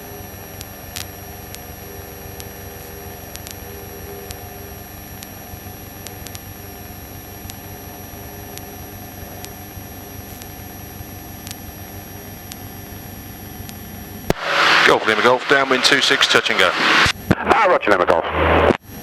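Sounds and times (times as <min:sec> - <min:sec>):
aircraft piston engine droning: 0:00.0 - 0:18.0
thin high whine: 0:00.0 - 0:19.0.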